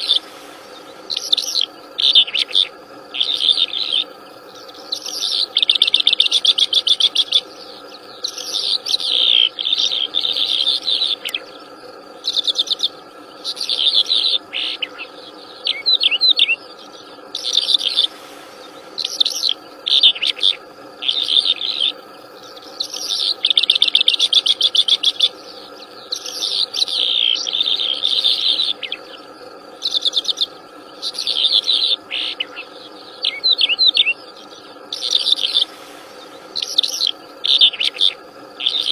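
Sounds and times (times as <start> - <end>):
insect drone: 0.0 - 38.9
songbird trilling: 0.0 - 38.9.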